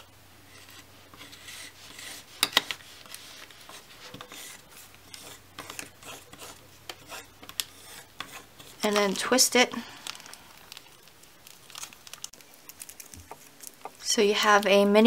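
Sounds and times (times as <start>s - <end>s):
plastic piping bag rustling: 2.2s - 15.0s.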